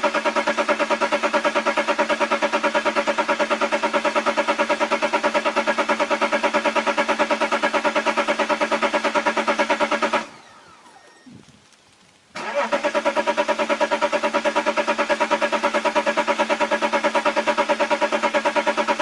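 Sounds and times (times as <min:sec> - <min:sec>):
diesel engine chugging: 0:00.0 - 0:10.2, 0:12.4 - 0:19.0.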